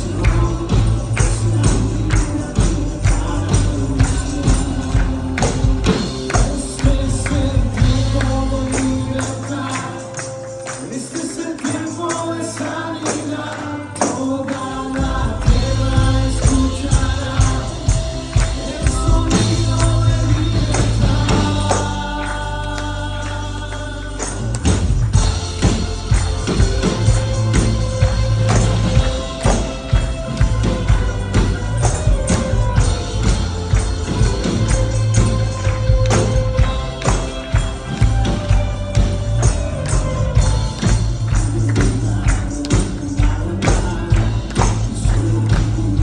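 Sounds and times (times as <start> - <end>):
bass: 0.0 - 46.0
people singing: 0.0 - 46.0
tambourine shaking: 0.0 - 46.0.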